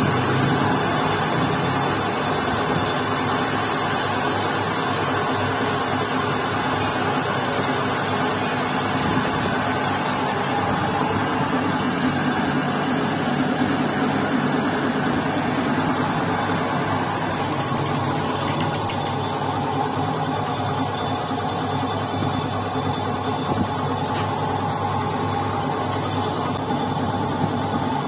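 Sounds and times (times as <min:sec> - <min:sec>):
metal lathe humming: 0:00.0 - 0:27.8.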